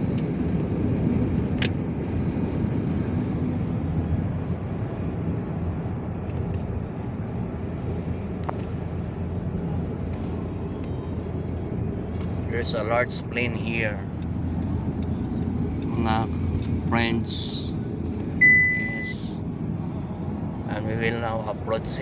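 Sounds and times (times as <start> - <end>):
road noise: 0.0 - 22.0
vehicle engine hum: 0.0 - 22.0.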